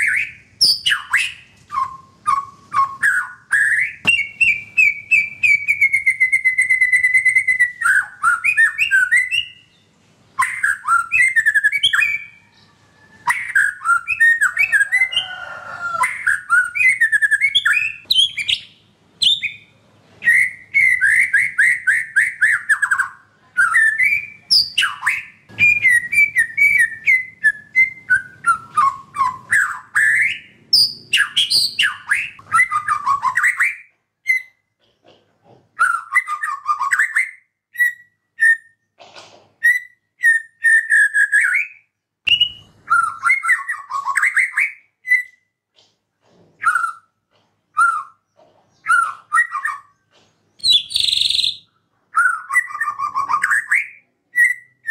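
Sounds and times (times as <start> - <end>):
bird singing whistles and trills: 0.0 - 9.8, 10.4 - 15.2, 16.0 - 34.6, 35.8 - 38.8, 39.6 - 45.5, 46.6 - 47.1, 48.8 - 49.9, 50.6 - 54.9.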